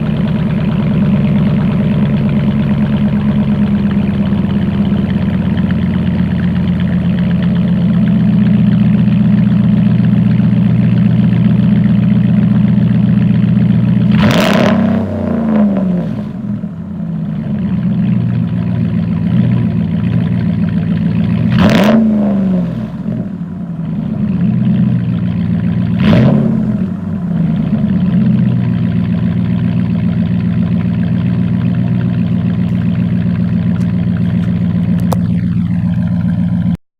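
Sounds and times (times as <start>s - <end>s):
engine idling and revving: 0.0s - 36.8s.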